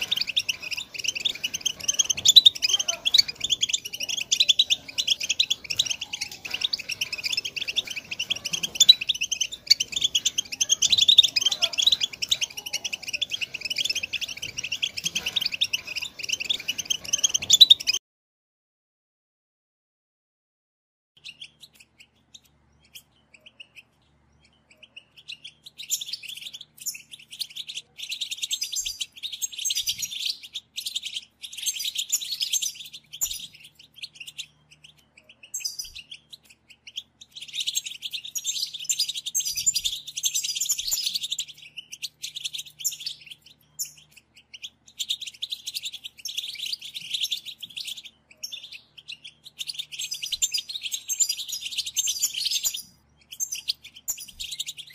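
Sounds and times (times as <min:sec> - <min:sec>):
goldfinch twittering and trilling: 0:00.0 - 0:18.0, 0:21.2 - 0:54.9
soft bird chirps: 0:00.0 - 0:18.0, 0:21.2 - 0:54.9.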